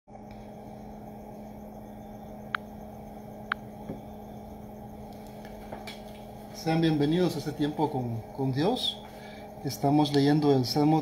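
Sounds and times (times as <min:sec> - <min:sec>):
low electrical hum: 0:00.1 - 0:11.0.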